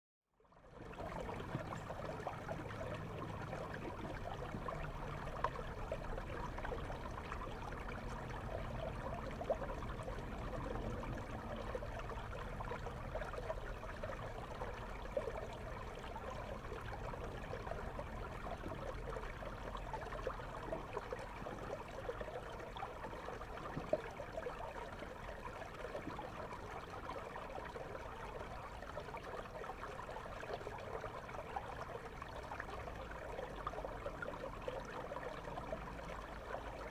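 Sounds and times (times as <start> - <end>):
river water flowing: 0.8 - 36.9.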